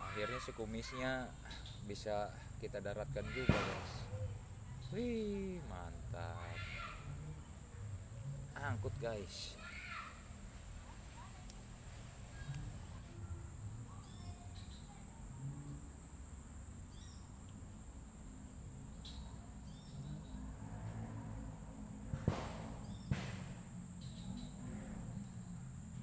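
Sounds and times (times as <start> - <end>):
faint chirps: 0.0 - 26.0
high-pitched insect chorus: 0.0 - 26.0.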